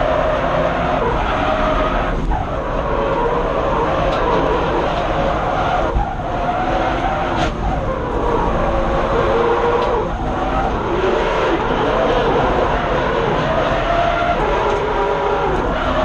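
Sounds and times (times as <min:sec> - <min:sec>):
car engine revving hard: 0:00.0 - 0:16.0
tyres skidding: 0:00.0 - 0:16.0.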